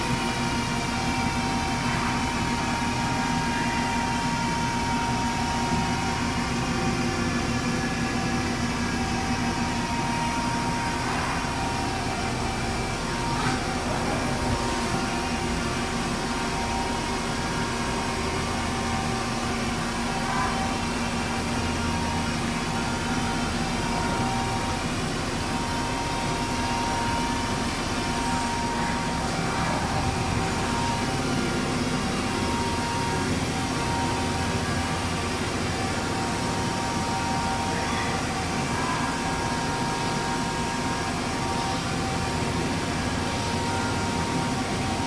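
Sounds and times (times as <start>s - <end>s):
machine hum: 0.0s - 45.0s
whining machine tones: 0.0s - 45.0s.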